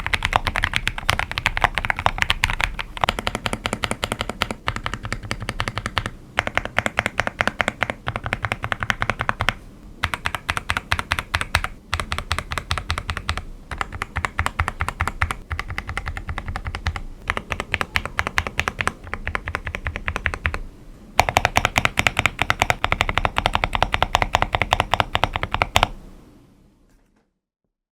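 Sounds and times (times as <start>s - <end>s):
mechanical keyboard typing: 0.0s - 26.0s.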